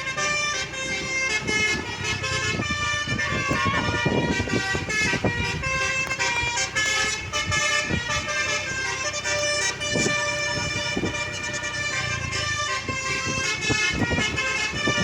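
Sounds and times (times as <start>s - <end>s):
bus horn playing a tune: 0.0s - 15.0s.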